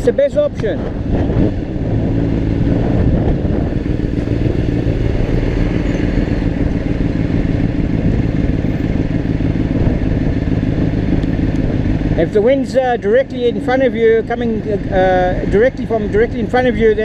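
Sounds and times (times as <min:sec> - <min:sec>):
motorcycle engine cruising: 0:00.0 - 0:17.0
wind rushing over microphone: 0:00.0 - 0:17.0.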